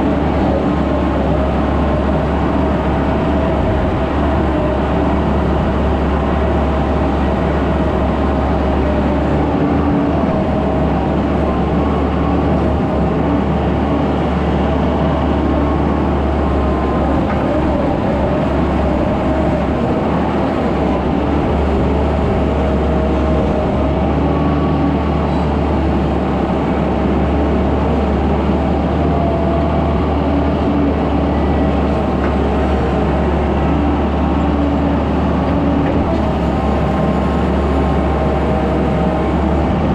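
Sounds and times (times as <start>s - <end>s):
skid steer engine drone: 0.0s - 39.9s.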